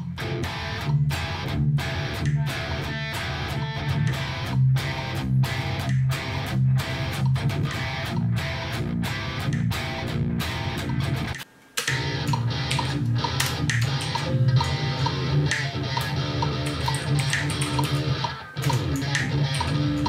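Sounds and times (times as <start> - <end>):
electric guitar metal riff: 0.0 - 20.0.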